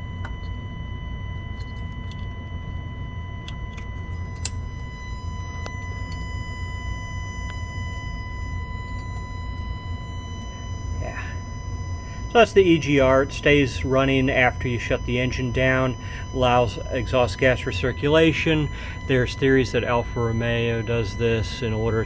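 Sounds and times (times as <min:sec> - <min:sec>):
high-pitched solenoid whine: 0:00.0 - 0:22.0.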